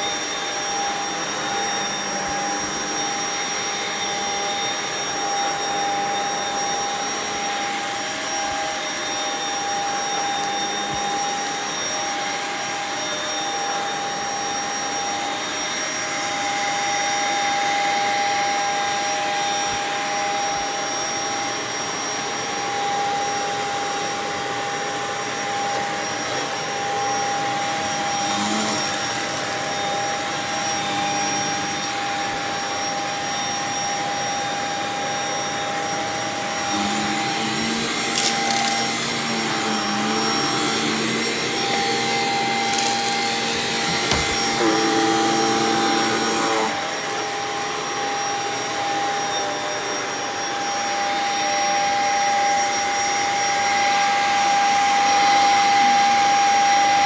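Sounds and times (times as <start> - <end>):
stick vacuum cleaner running: 0.0 - 57.0.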